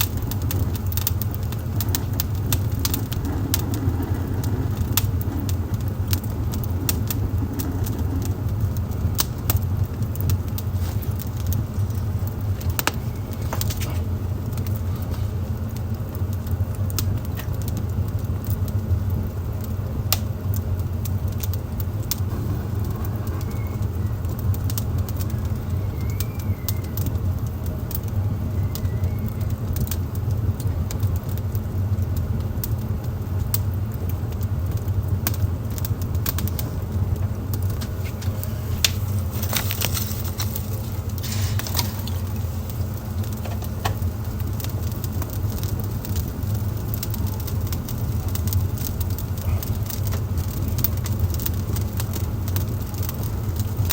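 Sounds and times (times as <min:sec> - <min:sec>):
fire low rumble: 0:00.0 - 0:53.9
wood fire crackling and popping: 0:00.0 - 0:53.9.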